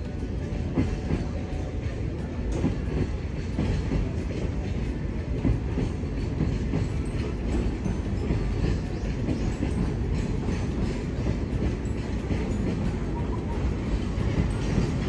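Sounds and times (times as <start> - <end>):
train carriages rumbling: 0.0 - 15.0
wheels clicking over rails: 0.0 - 15.0.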